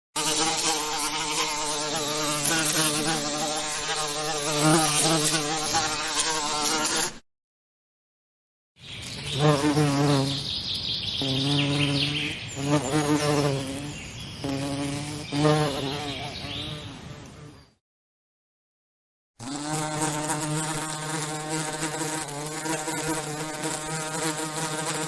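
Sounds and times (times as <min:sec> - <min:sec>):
bees buzzing: 0:00.2 - 0:07.2, 0:09.3 - 0:10.4, 0:11.2 - 0:17.6, 0:19.4 - 0:25.0.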